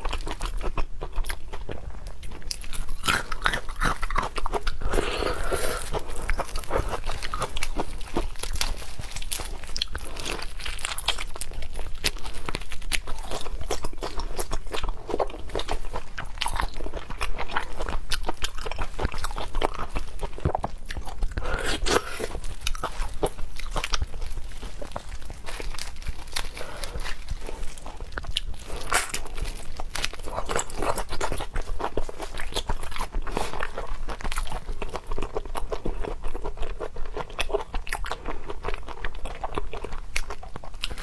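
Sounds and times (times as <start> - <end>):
chewing and biting seafood: 0.0 - 41.0.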